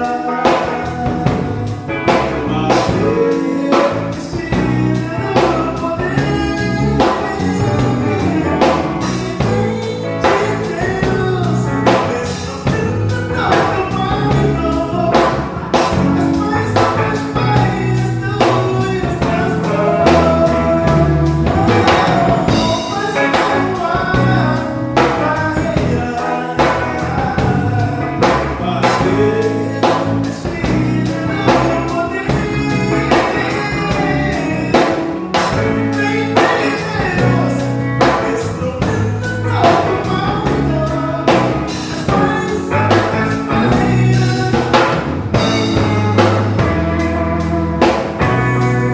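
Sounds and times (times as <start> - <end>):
band playing drums and guitar: 0.0 - 48.9
person singing: 0.0 - 48.9.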